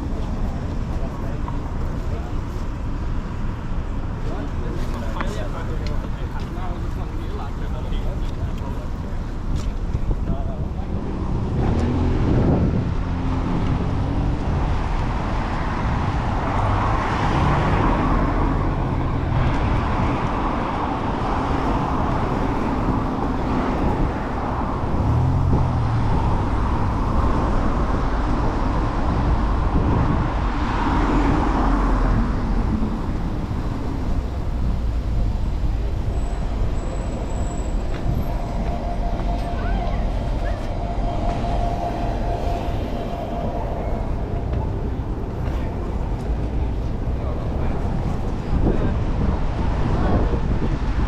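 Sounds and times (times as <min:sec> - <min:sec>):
low traffic rumble: 0:00.0 - 0:51.0
vehicles passing: 0:00.0 - 0:51.0.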